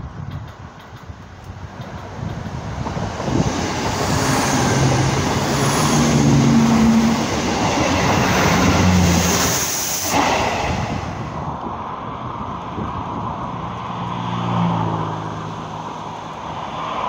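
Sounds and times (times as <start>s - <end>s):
diesel train passing: 0.0s - 13.7s.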